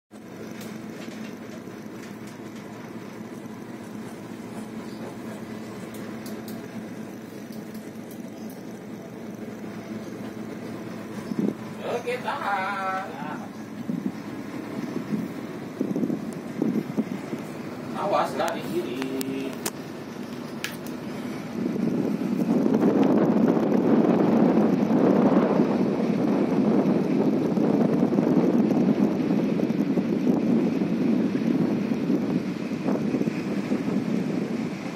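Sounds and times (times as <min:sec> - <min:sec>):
boat engine running: 0:00.1 - 0:34.9
wind noise on microphone: 0:00.2 - 0:34.9.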